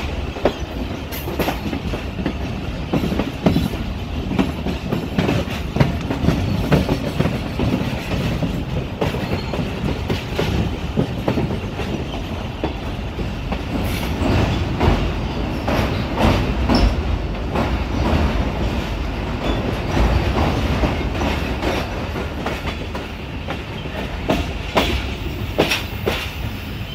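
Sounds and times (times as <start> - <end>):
wheels clattering over rail joints: 0.0 - 26.4
train wheels rumbling on track: 0.0 - 26.9.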